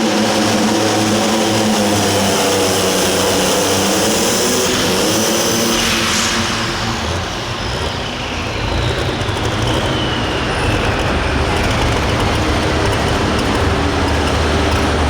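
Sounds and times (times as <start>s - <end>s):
diesel engine roaring: 0.0s - 15.0s
high turbo whine: 0.0s - 15.0s.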